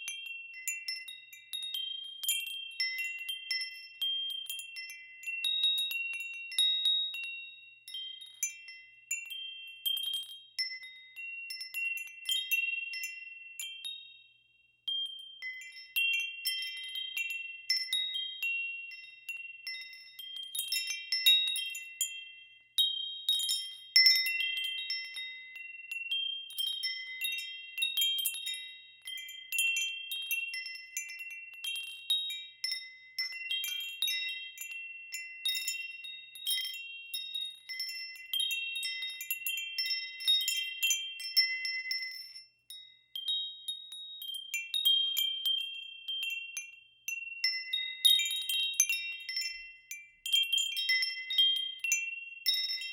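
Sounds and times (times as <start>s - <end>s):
metal wind chimes ringing: 0.0s - 52.9s.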